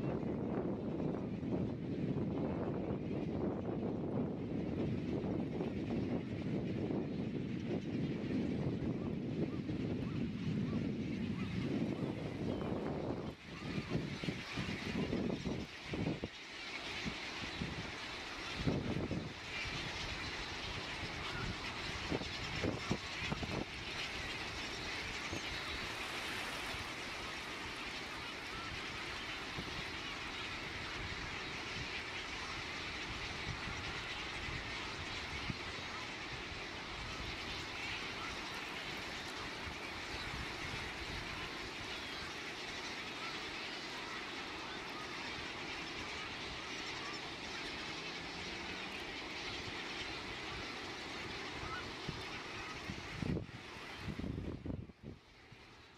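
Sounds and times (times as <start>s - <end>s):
wind rumbling on microphone: 0.0s - 43.3s, 46.0s - 55.9s
seabird flock splashing and calling: 0.0s - 55.9s.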